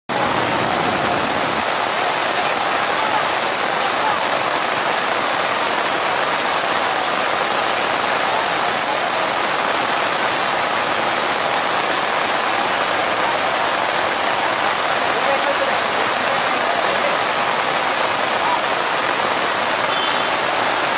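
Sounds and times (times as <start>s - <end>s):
heavy rain pouring: 0.1s - 20.9s.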